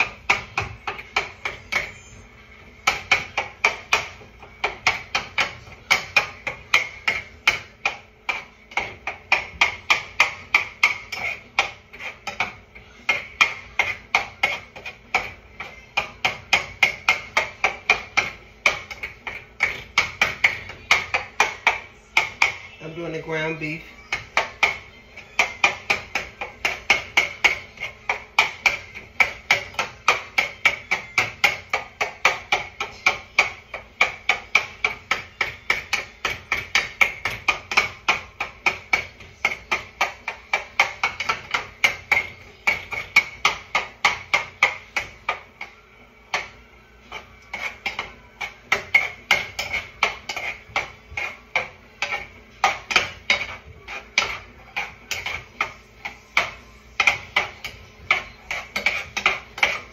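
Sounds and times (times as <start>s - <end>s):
utensil striking metal pot: 2.8s - 59.9s.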